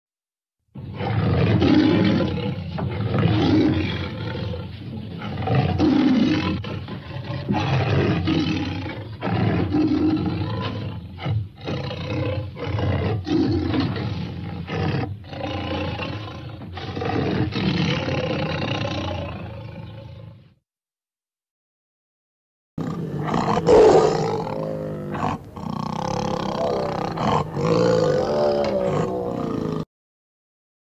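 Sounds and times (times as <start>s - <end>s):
tiger roaring: 0.8s - 20.4s, 22.8s - 29.8s.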